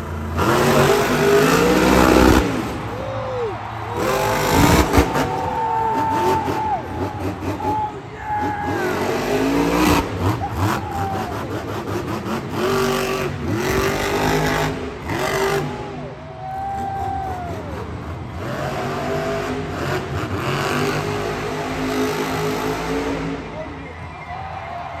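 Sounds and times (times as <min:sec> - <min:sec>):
truck engine revving: 0:00.0 - 0:03.0, 0:03.6 - 0:07.8, 0:08.4 - 0:16.0, 0:17.9 - 0:23.6.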